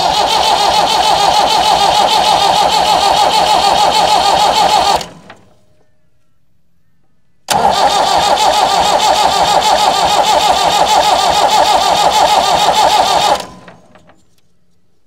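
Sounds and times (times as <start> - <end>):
diesel engine cranking on starter: 0.0 - 5.6, 7.5 - 14.2.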